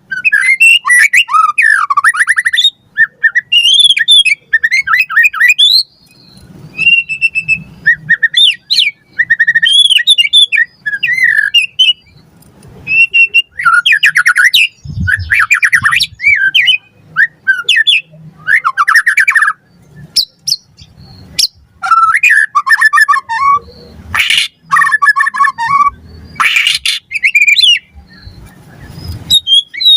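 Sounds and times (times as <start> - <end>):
songbird singing whistles and trills: 0.0 - 29.9.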